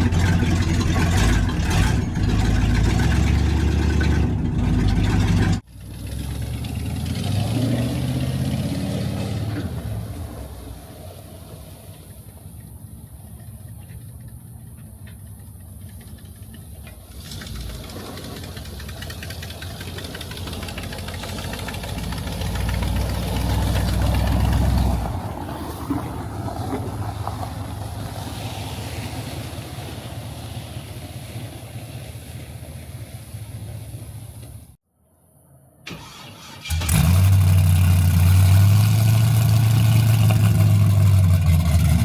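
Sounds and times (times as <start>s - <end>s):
vehicle engine droning: 0.0s - 34.8s, 36.0s - 42.0s.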